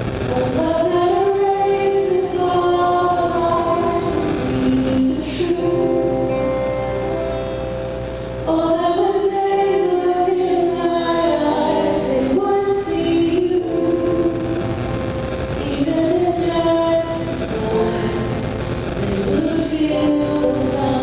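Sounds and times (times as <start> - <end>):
voices singing slow song: 0.0 - 21.0.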